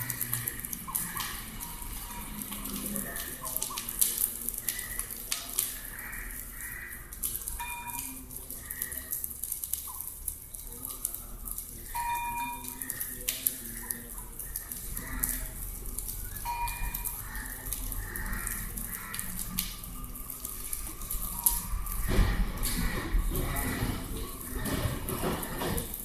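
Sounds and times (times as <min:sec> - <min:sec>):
sizzling hiss: 0:00.0 - 0:23.2
fire crackling and popping: 0:00.0 - 0:26.0.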